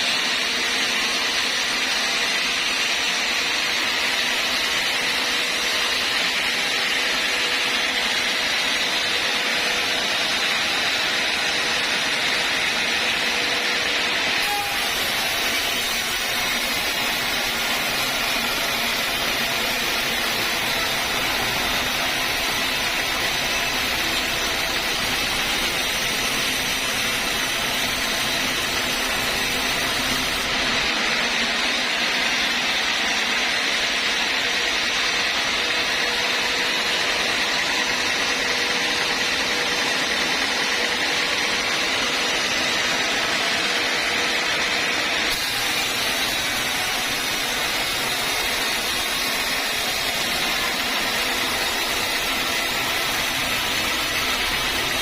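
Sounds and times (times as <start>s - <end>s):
sawmill saw cutting wood: 0.0s - 55.0s.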